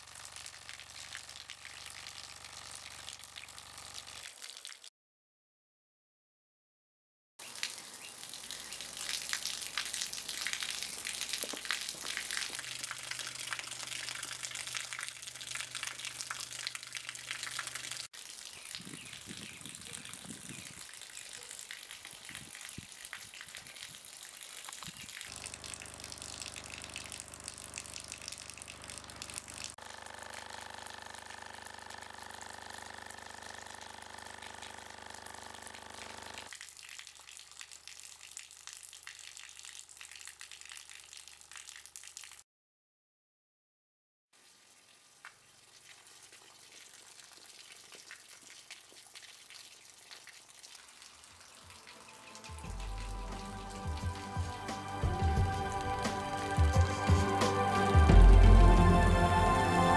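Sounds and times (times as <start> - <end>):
water running and splashing: 0.0 - 4.9, 7.4 - 42.4, 44.4 - 57.2.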